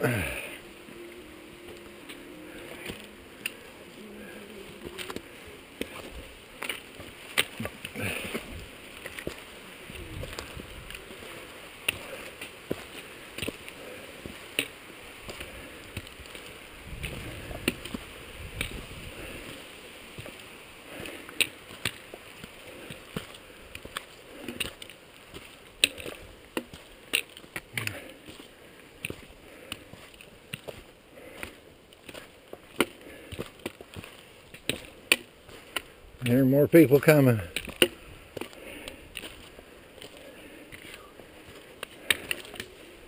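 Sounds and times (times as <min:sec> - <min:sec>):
footsteps on stony trail: 0:00.0 - 0:43.0
steady background hiss: 0:00.0 - 0:43.0
trekking poles clicking on rock: 0:04.8 - 0:19.6, 0:20.2 - 0:36.4, 0:37.4 - 0:43.0.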